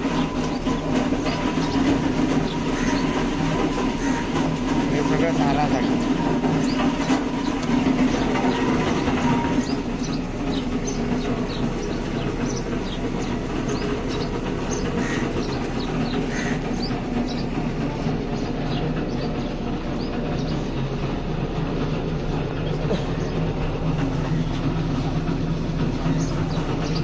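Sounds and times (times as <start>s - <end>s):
low mechanical rumble: 0.0s - 27.0s.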